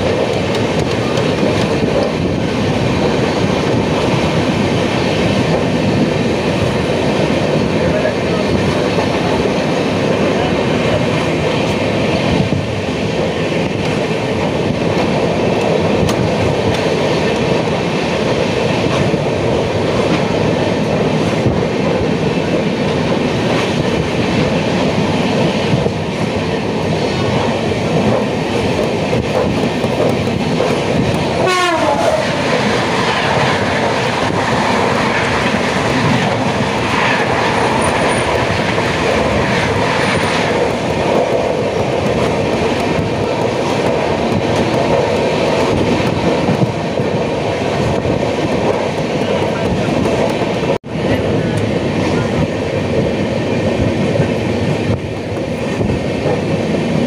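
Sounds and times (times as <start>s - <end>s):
train wheels rumbling on track: 0.0s - 57.0s.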